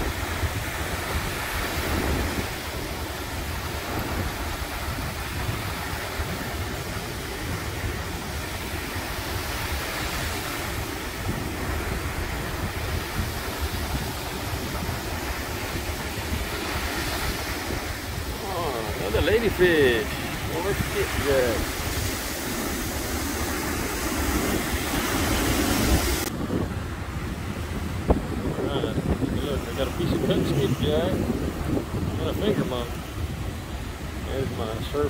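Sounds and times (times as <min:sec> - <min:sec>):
surf breaking on beach: 0:00.0 - 0:35.0
wind rumbling on microphone: 0:00.0 - 0:35.0.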